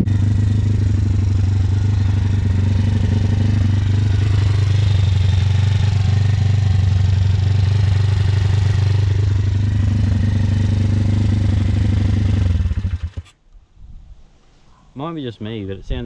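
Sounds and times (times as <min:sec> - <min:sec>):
engine ticking: 0:00.0 - 0:13.4
motorcycle engine idling: 0:00.0 - 0:13.4.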